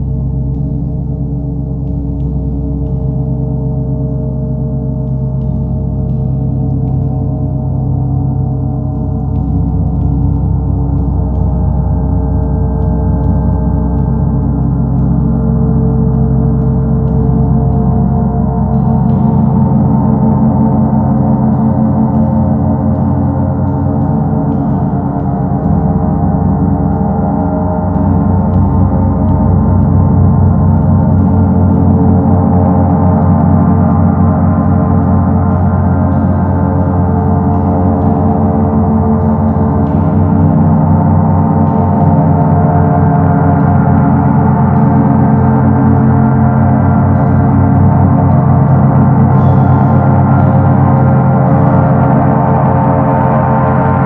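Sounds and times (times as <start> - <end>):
gong deep throbbing wash: 0.0 - 54.0.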